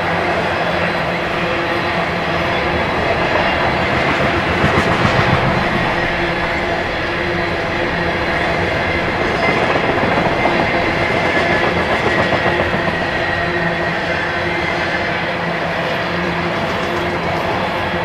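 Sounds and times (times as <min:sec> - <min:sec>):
train wheels clattering on rails: 0:00.6 - 0:18.0.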